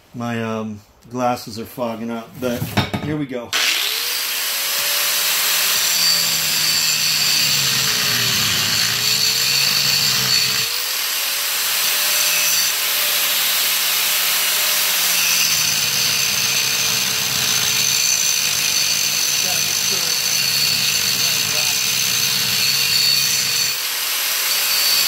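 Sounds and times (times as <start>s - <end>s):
angle grinder cutting steel bolt: 3.6s - 25.0s.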